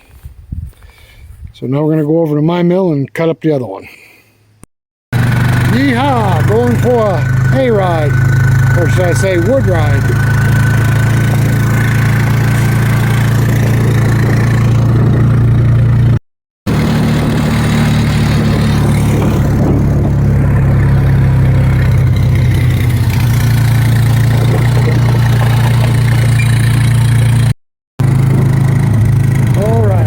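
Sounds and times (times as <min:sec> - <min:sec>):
atv engine running at low speed: 0:05.1 - 0:30.0.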